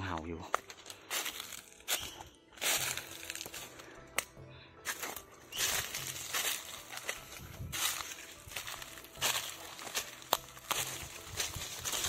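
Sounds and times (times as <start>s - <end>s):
leaves crunching underfoot: 0.5s - 3.8s, 4.9s - 12.0s.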